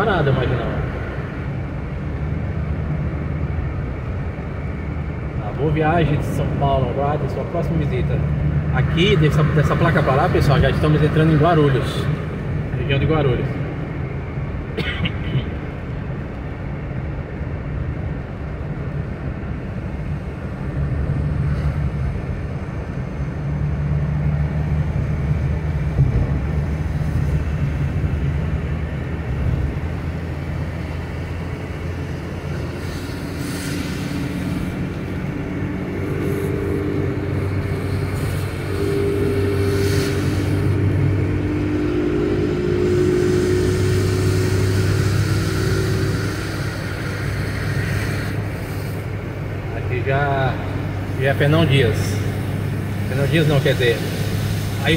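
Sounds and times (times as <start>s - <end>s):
tyres hissing on wet road: 0.0s - 17.3s, 17.9s - 54.9s
car engine and tyre drone: 0.0s - 54.9s.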